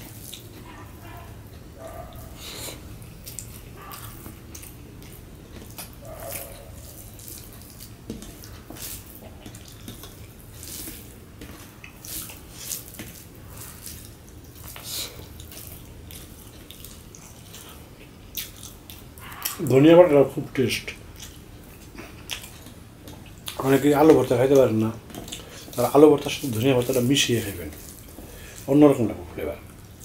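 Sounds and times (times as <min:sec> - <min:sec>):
wet eating clicks and smacks: 0:00.0 - 0:19.8, 0:21.0 - 0:28.7.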